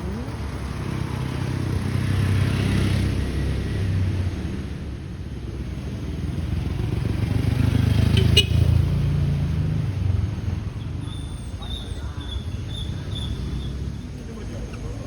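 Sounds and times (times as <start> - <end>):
motor vehicle engine running: 0.0 - 15.0.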